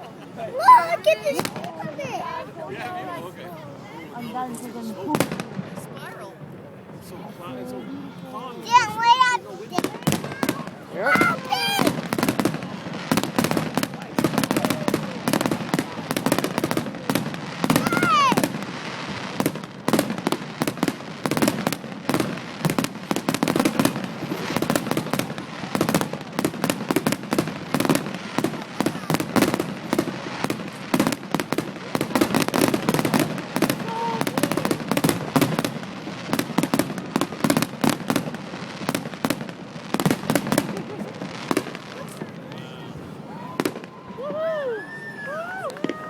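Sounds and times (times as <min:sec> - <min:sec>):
firework bangs and crackles: 0:00.6 - 0:03.3, 0:04.0 - 0:07.4, 0:08.6 - 0:46.0.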